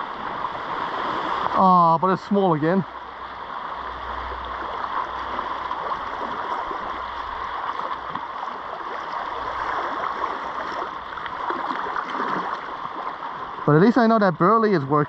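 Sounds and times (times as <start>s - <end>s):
sea water fizzing over rocks: 0.0s - 15.0s.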